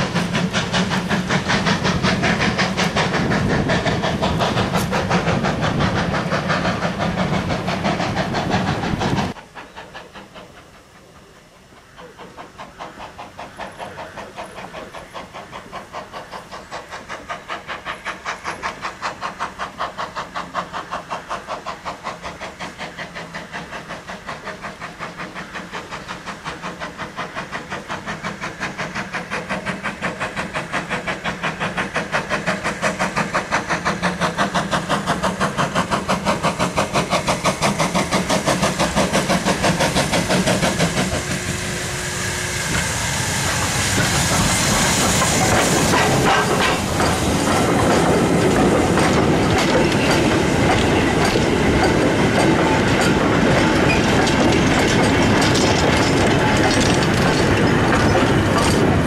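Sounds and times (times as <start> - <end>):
steam locomotive exhaust chuffing: 0.0 - 59.0.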